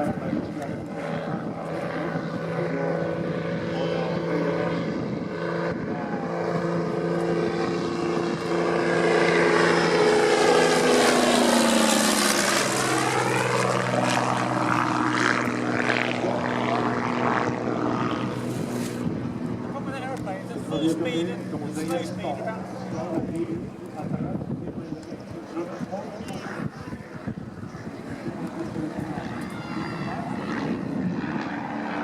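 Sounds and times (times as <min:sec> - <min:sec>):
propeller plane flying past: 0:00.0 - 0:32.0.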